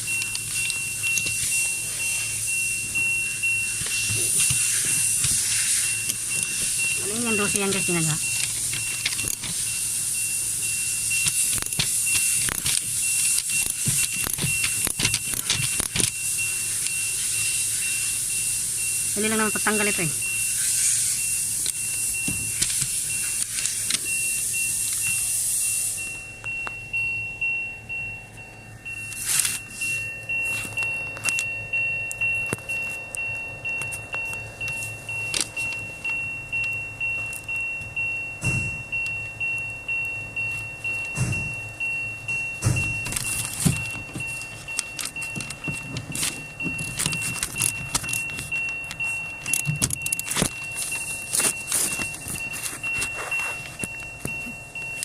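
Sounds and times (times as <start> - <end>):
steady high-pitched tone: 0.0 - 55.0.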